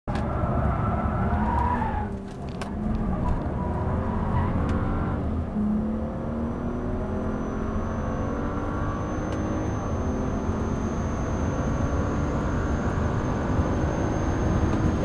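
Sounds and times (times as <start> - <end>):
car engine accelerating: 0.1 - 15.0
road and wind noise: 0.1 - 15.0.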